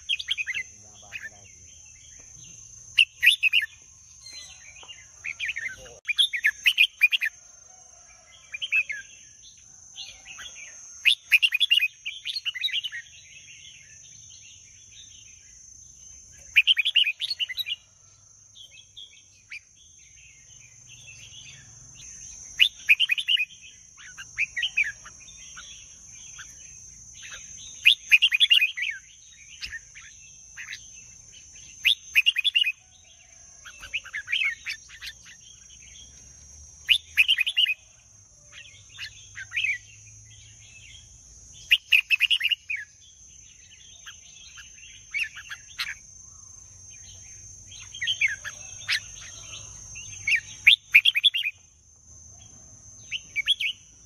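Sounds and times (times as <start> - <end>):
steady high-pitched whine: 0.0 - 54.0.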